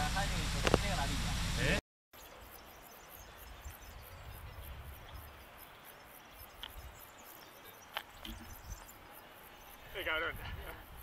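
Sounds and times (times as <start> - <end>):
insects chirping: 2.2 - 11.0.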